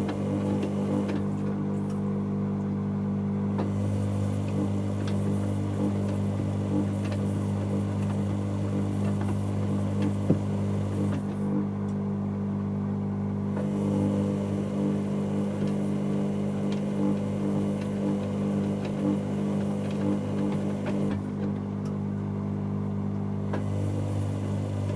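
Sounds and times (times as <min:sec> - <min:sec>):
washing machine motor hum: 0:00.0 - 0:24.9.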